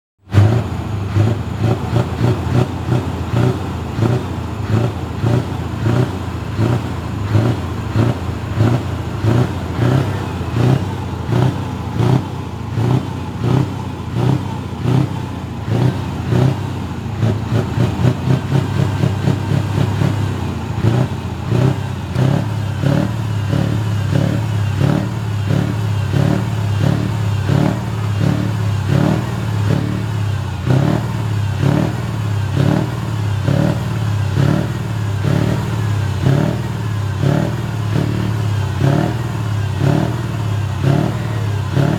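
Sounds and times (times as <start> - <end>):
truck diesel engine revving: 0.2 - 41.9.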